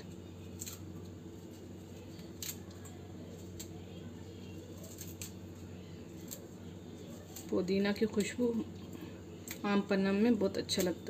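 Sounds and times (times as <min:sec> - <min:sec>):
mint leaves snapping and rustling: 0:00.0 - 0:09.7
low steady hum: 0:00.0 - 0:11.0.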